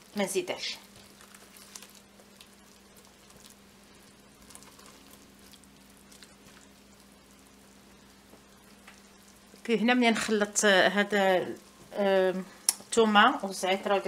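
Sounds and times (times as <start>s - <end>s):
mushrooms sizzling in butter: 0.0s - 14.0s
steady low hum: 0.0s - 14.0s.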